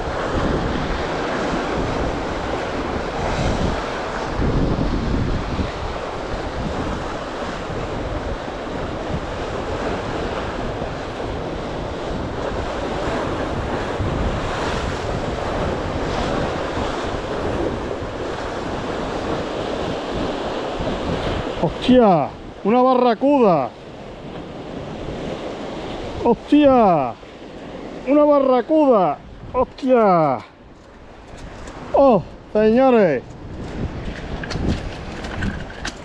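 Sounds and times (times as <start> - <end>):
sea surf washing: 0.0 - 36.0
wind rumbling on microphone: 0.0 - 36.0.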